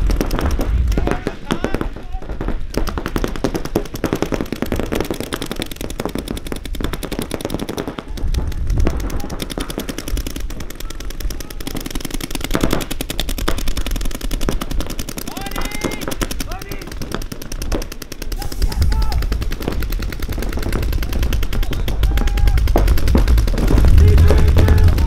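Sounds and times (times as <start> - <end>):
paintball markers firing: 0.0 - 25.0.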